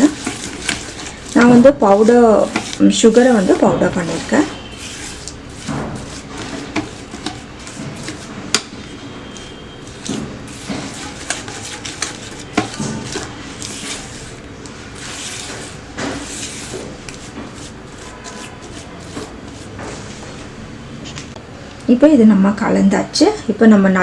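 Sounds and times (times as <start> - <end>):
spoon stirring in bowl: 0.0 - 20.5.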